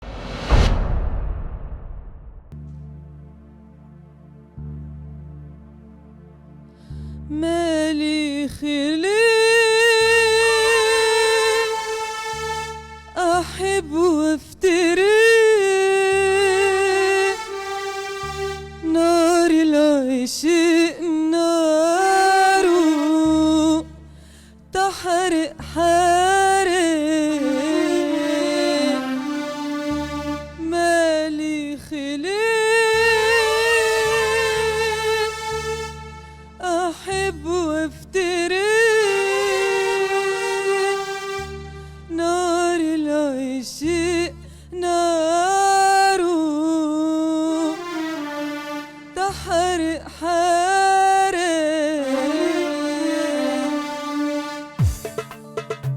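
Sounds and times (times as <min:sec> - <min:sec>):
woman singing with vibrato: 0:07.3 - 0:17.8, 0:18.7 - 0:24.0, 0:24.7 - 0:36.0, 0:36.6 - 0:54.6.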